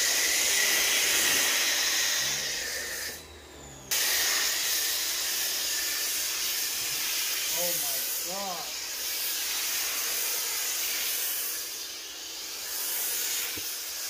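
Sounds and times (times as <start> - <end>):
foam cannon spraying: 0.0 - 14.0.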